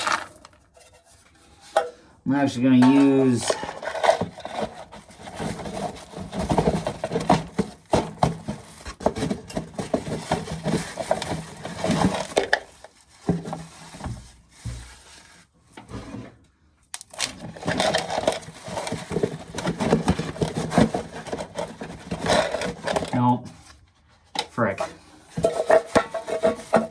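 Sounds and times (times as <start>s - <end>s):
dry corn rattling and scraping: 0.0s - 15.4s, 17.1s - 23.4s, 24.5s - 26.9s.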